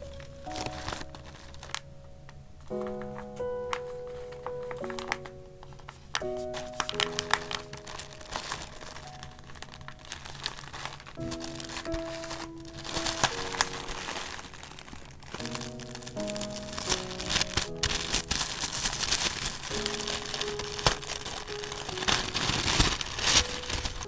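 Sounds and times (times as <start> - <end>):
soft background music: 0.0 - 24.0
wrapping paper crinkling: 0.0 - 24.0.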